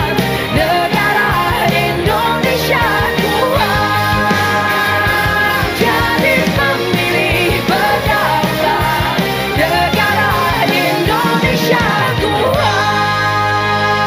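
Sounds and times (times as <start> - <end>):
upbeat pop-rock music: 0.0 - 14.0.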